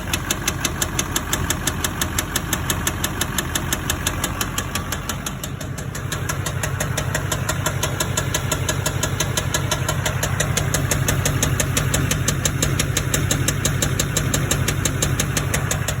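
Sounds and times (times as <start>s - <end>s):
diesel engine knocking: 0.0s - 16.0s.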